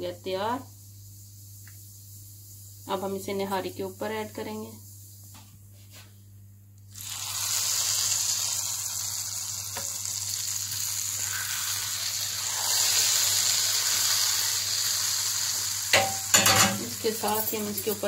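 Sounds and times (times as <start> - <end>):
hot oil sizzling: 0.0 - 5.4, 6.8 - 18.0.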